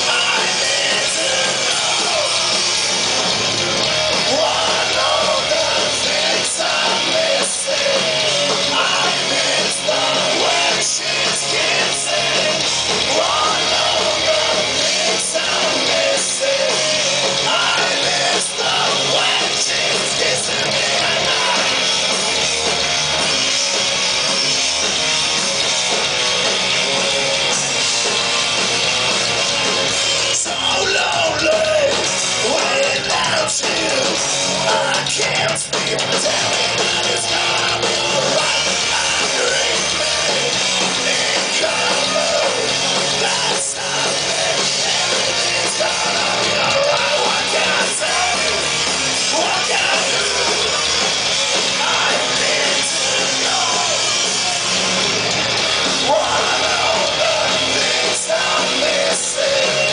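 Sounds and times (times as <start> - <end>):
man singing: 0.0 - 2.7, 4.2 - 21.9, 30.3 - 50.9, 51.6 - 54.8, 56.0 - 59.9
drums: 0.0 - 59.9
electric guitars: 0.0 - 59.9.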